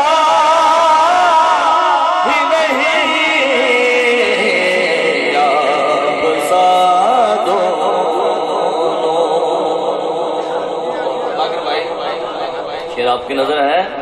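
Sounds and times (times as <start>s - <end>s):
man singing long wavering notes: 0.0s - 13.0s.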